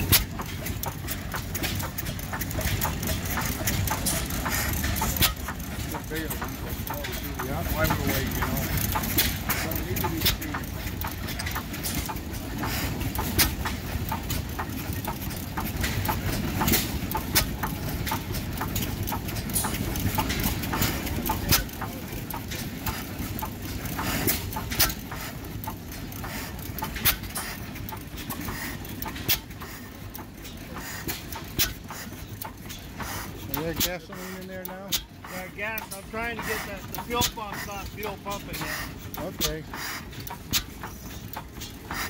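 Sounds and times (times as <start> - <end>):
stationary gas engine firing: 0.0 - 42.0.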